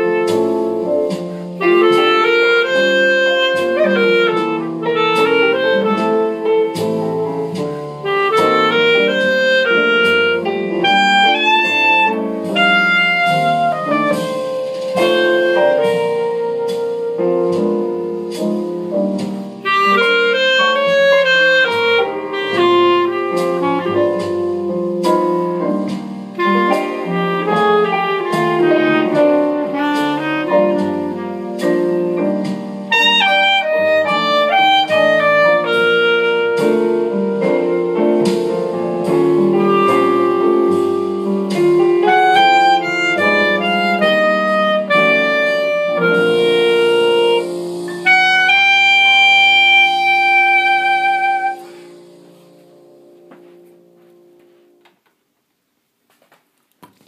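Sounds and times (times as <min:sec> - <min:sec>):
clarinet playing slow melody: 0:00.0 - 0:18.6, 0:19.5 - 0:53.3.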